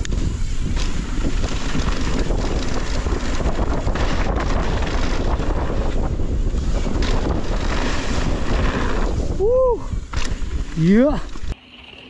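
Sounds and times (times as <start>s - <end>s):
wind on microphone: 0.0s - 11.6s
bike tyres on dirt: 0.0s - 12.0s.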